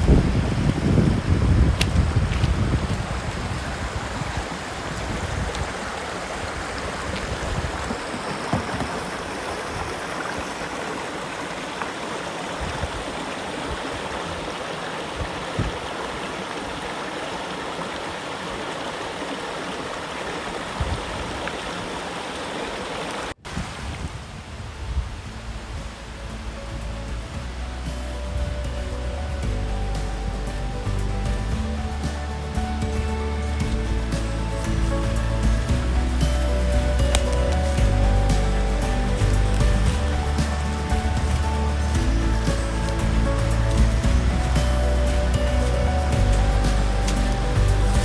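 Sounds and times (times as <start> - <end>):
stream flowing: 0.0 - 48.0.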